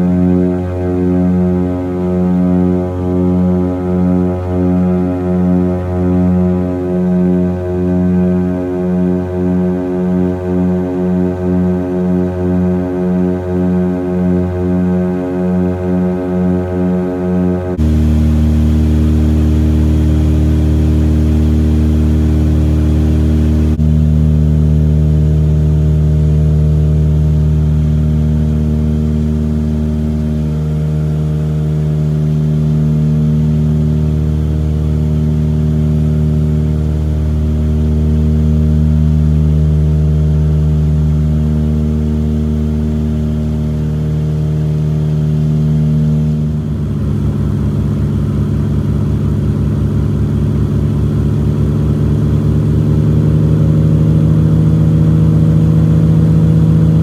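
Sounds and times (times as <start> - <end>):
propeller plane cabin drone: 0.0 - 57.0.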